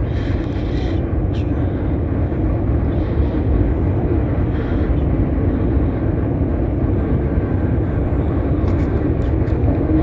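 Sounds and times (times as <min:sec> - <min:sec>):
low rumbling noise: 0:00.0 - 0:10.0.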